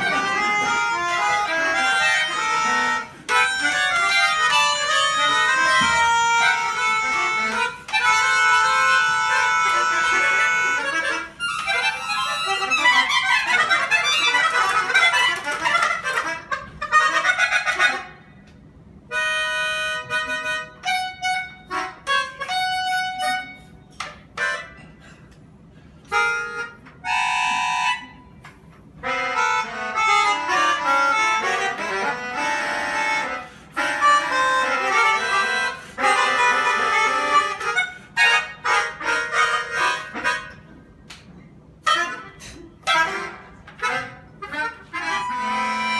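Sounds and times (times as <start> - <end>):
free-reed instrument melody: 0.0 - 18.3, 19.1 - 24.9, 26.1 - 45.9.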